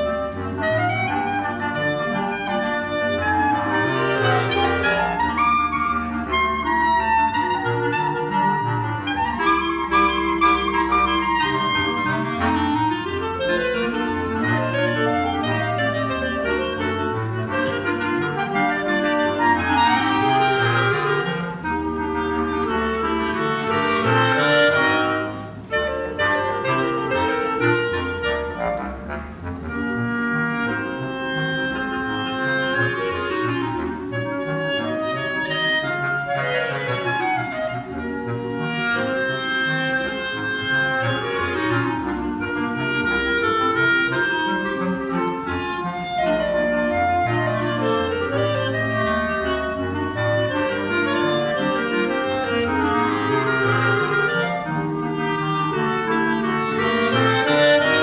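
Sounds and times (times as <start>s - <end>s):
bass clarinet low line: 0.0s - 58.0s
clarinets playing melodies: 0.0s - 58.0s.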